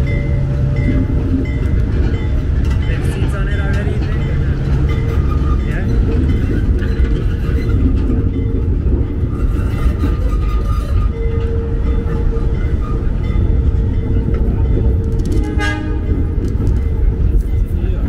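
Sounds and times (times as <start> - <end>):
subway cars rumbling: 0.0 - 18.0.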